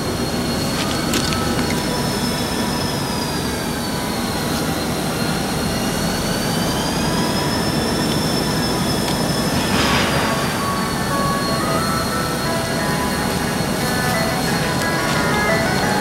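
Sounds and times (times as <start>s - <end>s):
freight train rumble: 0.0s - 16.0s
high wheel squeal: 0.0s - 16.0s.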